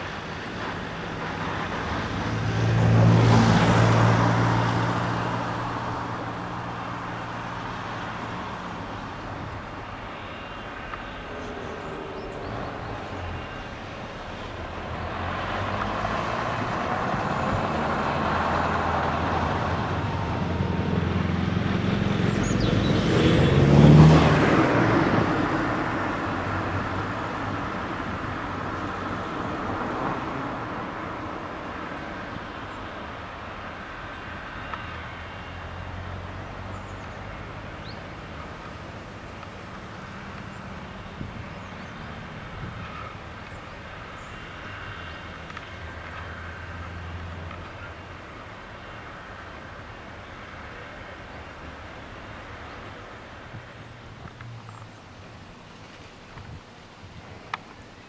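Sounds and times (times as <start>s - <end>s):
vehicle engine hum passing: 0.0s - 58.0s.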